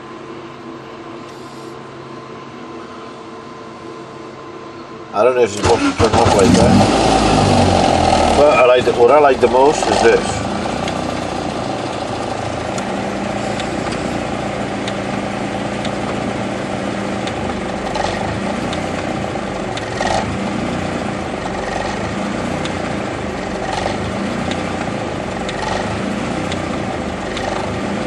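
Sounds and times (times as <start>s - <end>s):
car engine idling: 5.5s - 28.0s.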